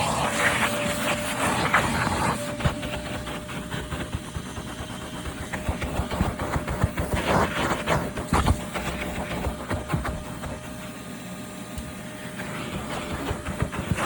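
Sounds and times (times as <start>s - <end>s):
shop vacuum whining: 0.0s - 14.0s.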